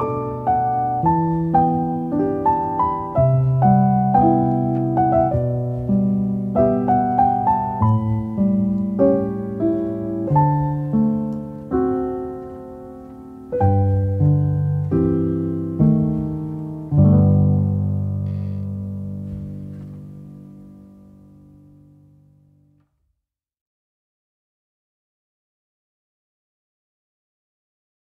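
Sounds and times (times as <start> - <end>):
gentle piano melody: 0.0 - 22.9.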